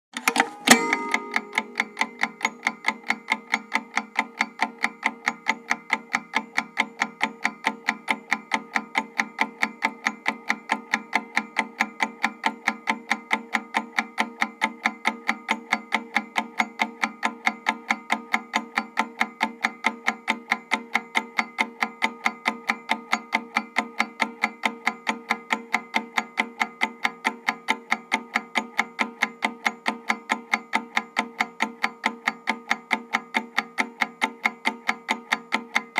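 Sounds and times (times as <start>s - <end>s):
mechanical timer ticking: 0.2s - 35.9s.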